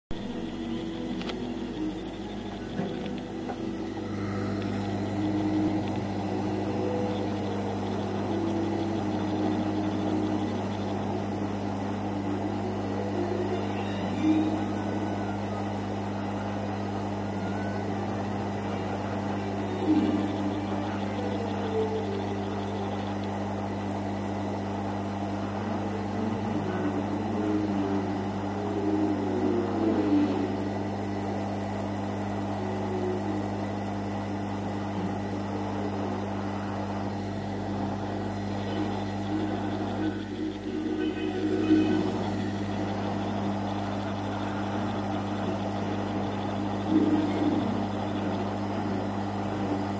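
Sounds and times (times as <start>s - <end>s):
low electrical hum: 0.1s - 49.9s.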